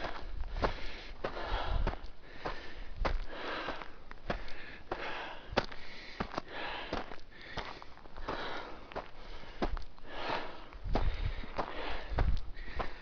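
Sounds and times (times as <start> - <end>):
footsteps on dry brush: 0.0 - 13.0
person breathing hard: 0.0 - 13.0.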